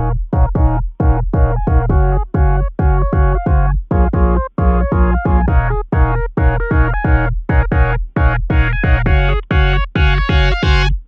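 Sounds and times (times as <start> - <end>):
electronic music with synthesizer: 0.0 - 11.0.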